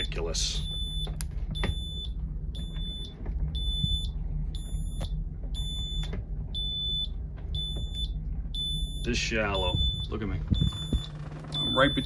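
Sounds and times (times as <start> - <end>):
depth alarm high beeps: 0.5 - 12.0.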